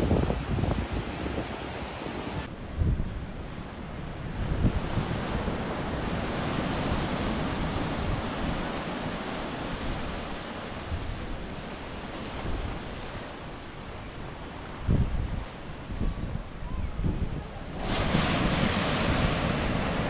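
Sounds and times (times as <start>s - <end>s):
ocean surf washing on beach: 0.0s - 20.0s
wind buffeting microphone: 0.0s - 20.0s.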